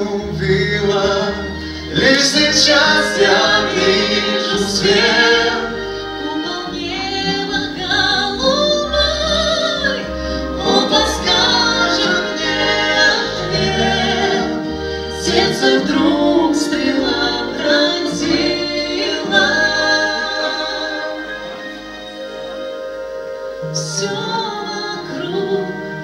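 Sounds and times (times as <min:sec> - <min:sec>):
instrumental accompaniment: 0:00.0 - 0:26.0
man and woman singing duet: 0:00.0 - 0:26.0.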